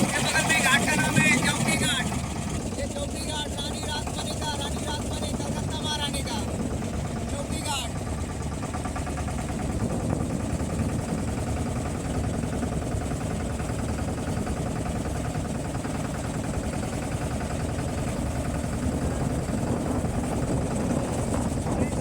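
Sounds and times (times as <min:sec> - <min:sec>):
motorboat engine drone: 0:00.0 - 0:22.0.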